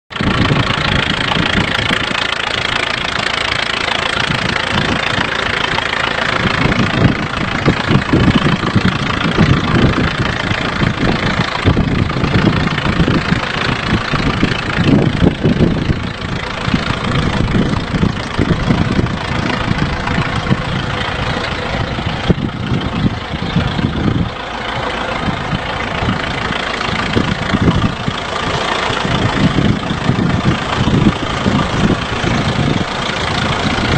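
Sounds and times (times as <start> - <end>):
welding machine engine running: 0.1 - 33.9.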